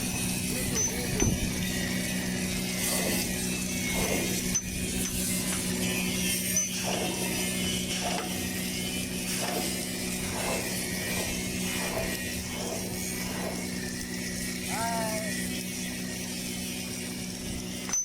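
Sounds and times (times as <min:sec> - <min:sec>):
steady electrical hum: 0:00.0 - 0:17.9.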